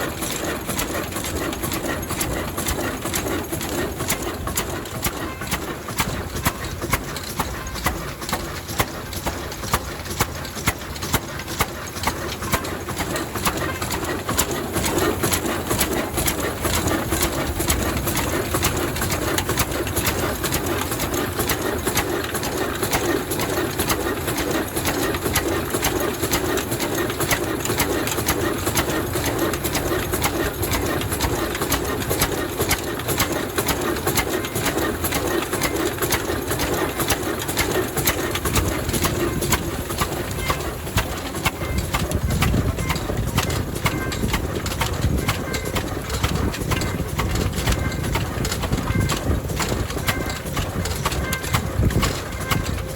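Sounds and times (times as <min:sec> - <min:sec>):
diesel engine exhaust beat: 0:00.0 - 0:52.9.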